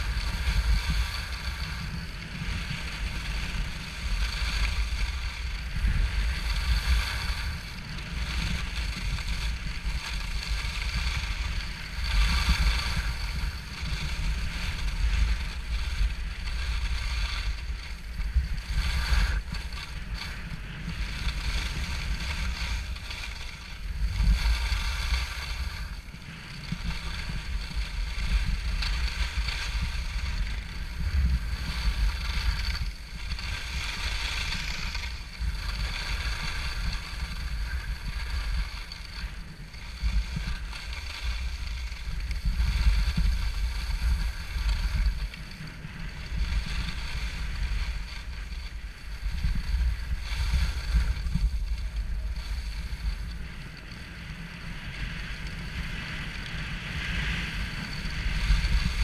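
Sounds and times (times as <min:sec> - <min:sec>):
skis sliding on snow: 0:00.0 - 0:59.0
wind buffeting microphone: 0:00.0 - 0:59.0.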